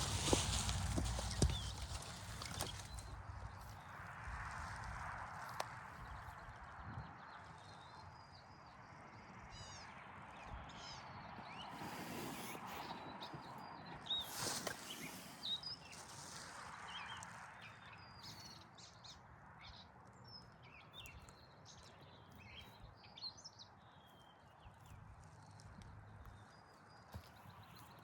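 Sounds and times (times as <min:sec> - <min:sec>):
small birds chirping: 0:00.0 - 0:04.8, 0:05.4 - 0:28.0.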